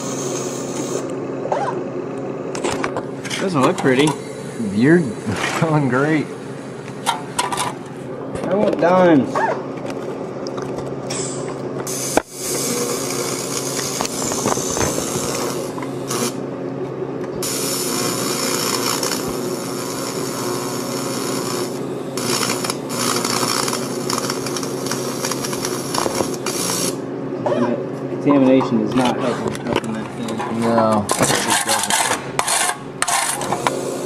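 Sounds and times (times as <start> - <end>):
welding arc buzzing and crackling: 0.0 - 1.5, 2.5 - 16.6, 17.2 - 27.1, 31.0 - 34.0.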